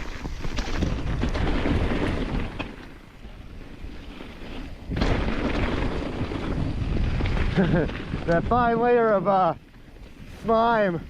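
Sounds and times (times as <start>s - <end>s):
bike rattling over bumps: 0.0s - 11.0s
bike tyres rolling: 0.0s - 11.0s
wind rumbling on microphone: 0.0s - 11.0s.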